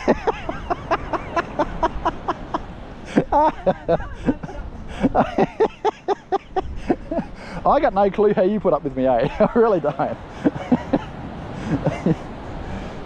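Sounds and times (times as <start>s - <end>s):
people laughing: 0.0s - 12.3s.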